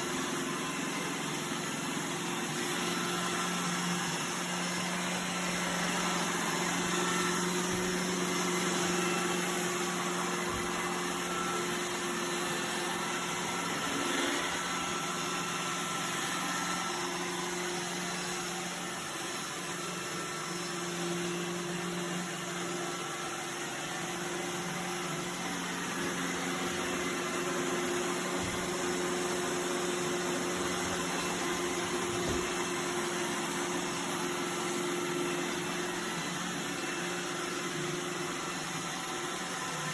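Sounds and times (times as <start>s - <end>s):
robot vacuum motor hum: 0.0s - 39.9s.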